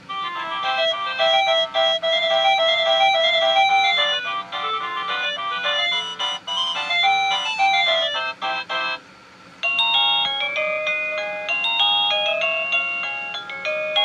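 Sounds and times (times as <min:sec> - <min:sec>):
electronic doorbell chime melody: 0:00.1 - 0:09.0, 0:09.6 - 0:14.0.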